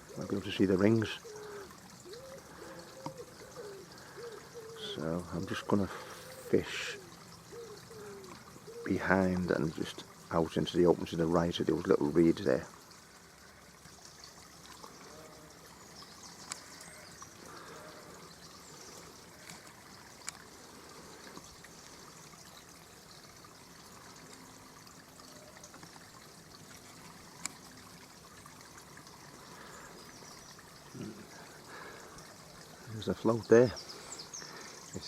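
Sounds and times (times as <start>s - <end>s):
stream trickling: 0.0s - 35.0s.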